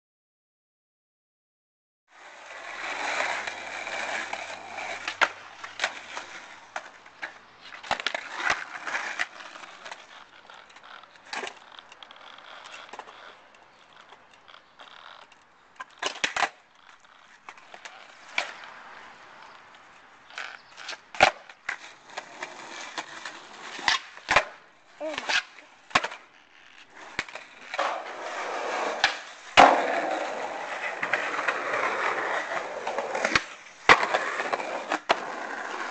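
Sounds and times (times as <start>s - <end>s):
skateboard wheels rolling on pavement: 2.1s - 35.9s
skateboard clacks: 2.6s - 18.8s, 19.4s - 35.9s.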